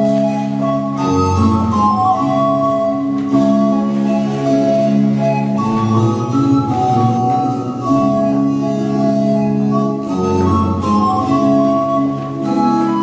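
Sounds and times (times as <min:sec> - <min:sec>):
instrumental music with held chords: 0:00.0 - 0:13.0.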